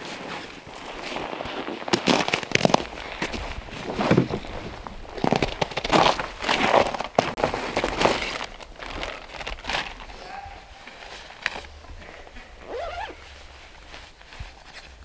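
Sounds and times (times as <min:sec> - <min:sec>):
jacket rustling: 0:00.0 - 0:15.0
plastic bag rustling: 0:00.0 - 0:15.0.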